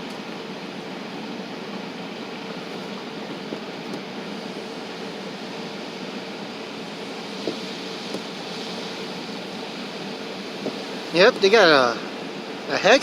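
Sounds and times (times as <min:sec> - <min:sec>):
vehicle hiss and rumble: 0:00.0 - 0:13.0.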